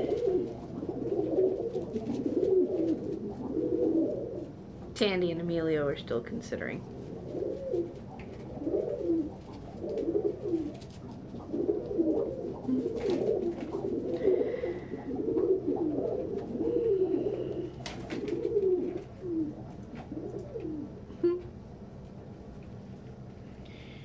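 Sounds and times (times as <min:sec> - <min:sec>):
pigeons cooing: 0:00.0 - 0:04.9, 0:06.8 - 0:24.0.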